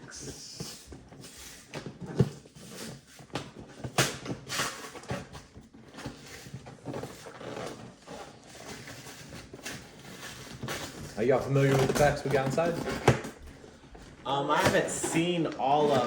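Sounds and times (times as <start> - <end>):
packaging rustling: 0.5 - 16.0.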